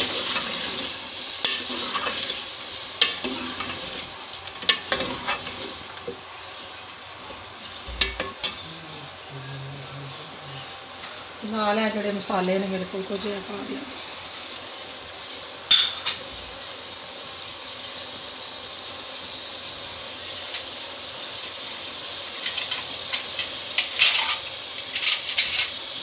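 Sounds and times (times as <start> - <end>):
chicken sizzling in a pot: 0.0 - 26.0.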